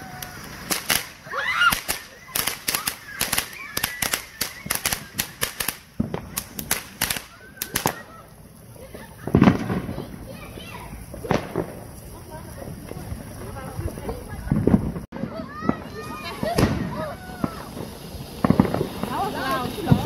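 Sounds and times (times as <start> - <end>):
firework crackling and popping: 0.0 - 20.0.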